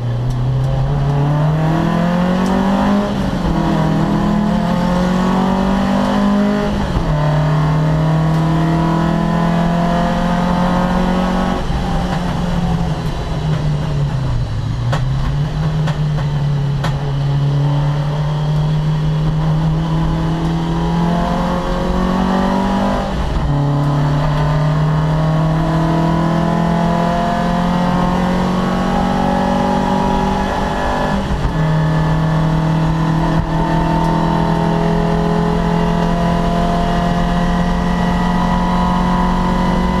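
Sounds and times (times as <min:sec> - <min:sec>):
race car engine accelerating: 0:00.0 - 0:40.0.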